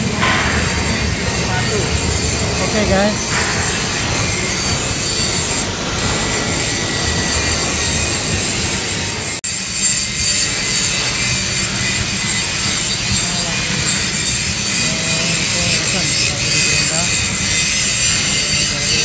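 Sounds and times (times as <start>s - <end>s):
angle grinder grinding steel: 0.0s - 19.0s.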